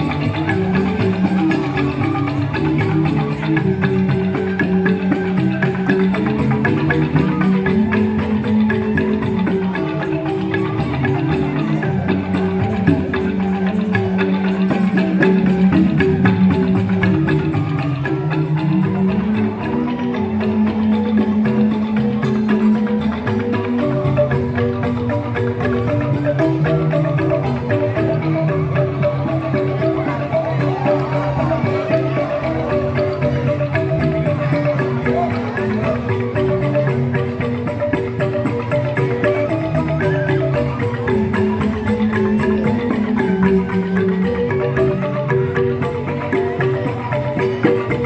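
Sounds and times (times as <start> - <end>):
bamboo xylophones playing: 0.0 - 48.0
percussion strikes: 0.0 - 48.0.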